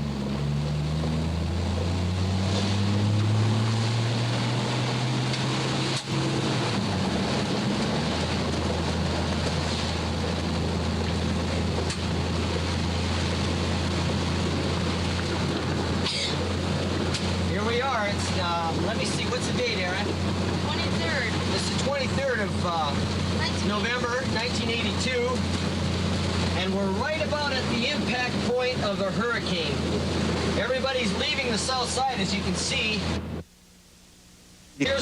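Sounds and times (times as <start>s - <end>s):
car engine hum: 0.0s - 33.5s, 34.8s - 35.0s
road and wind noise: 0.0s - 33.5s.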